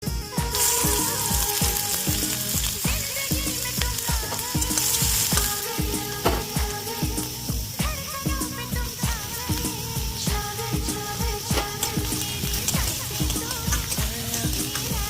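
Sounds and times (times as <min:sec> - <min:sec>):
background music with steady beat: 0:00.0 - 0:15.0
food sizzling in hot oil: 0:00.0 - 0:15.0.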